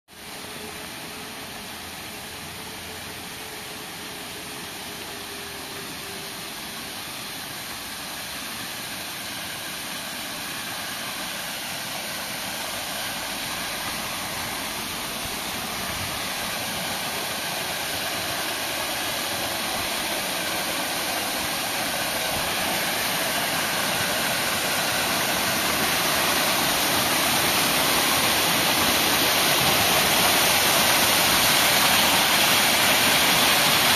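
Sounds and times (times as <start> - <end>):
waterfall rushing into pool: 0.1 - 33.9.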